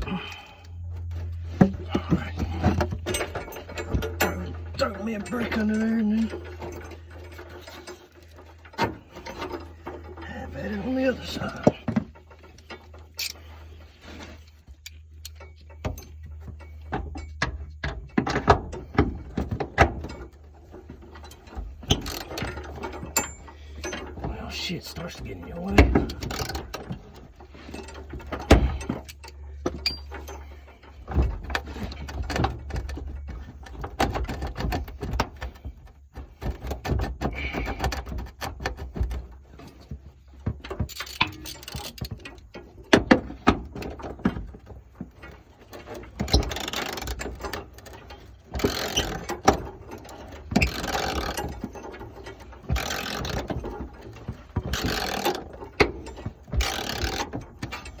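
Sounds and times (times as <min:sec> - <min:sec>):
tools and metal parts clanking: 0:00.0 - 0:58.0.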